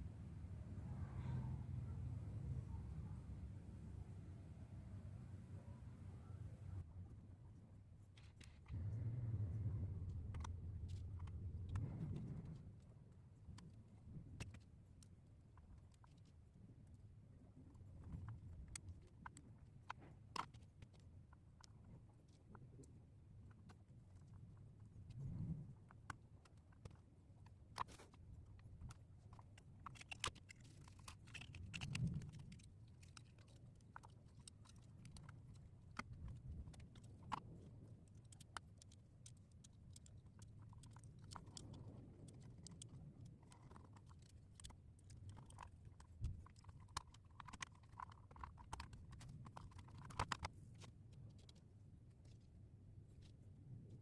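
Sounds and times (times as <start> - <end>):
low steady hum: 0.0 - 54.0
small parts and tools clicking: 7.9 - 8.9, 9.6 - 52.5.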